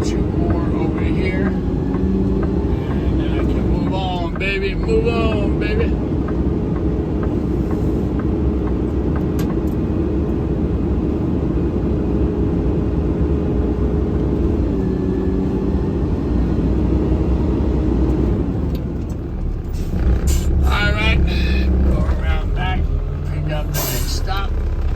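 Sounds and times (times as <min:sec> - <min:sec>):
drivetrain whine: 0:00.0 - 0:24.9
truck engine rumble: 0:00.0 - 0:24.9.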